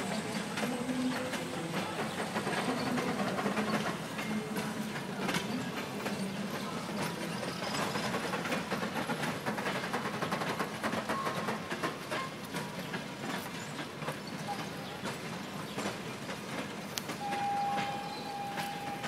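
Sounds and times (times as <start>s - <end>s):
moving train rumble and hiss: 0.0s - 19.0s
train wheels clacking over rail joints: 0.0s - 19.0s.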